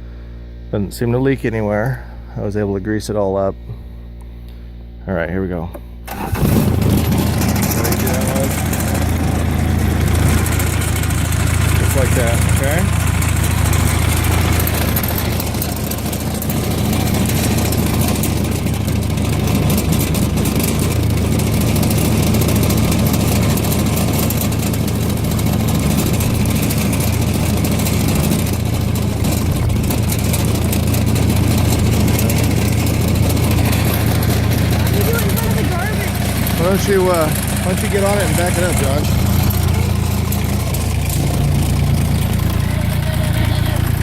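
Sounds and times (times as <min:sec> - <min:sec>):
diesel engine idling: 0:06.0 - 0:44.0.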